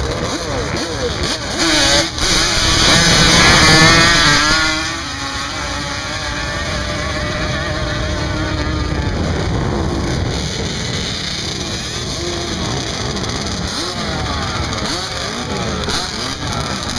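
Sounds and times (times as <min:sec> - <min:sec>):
quad engine revving: 0:00.0 - 0:16.9.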